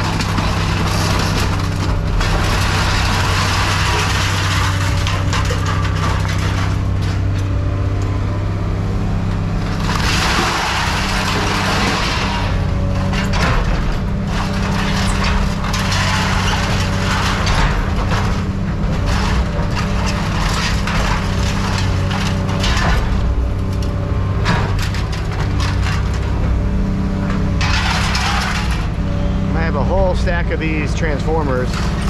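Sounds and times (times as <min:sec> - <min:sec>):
metallic clanks and rattles: 0:00.0 - 0:08.2, 0:09.6 - 0:32.0
engine running: 0:00.0 - 0:32.0.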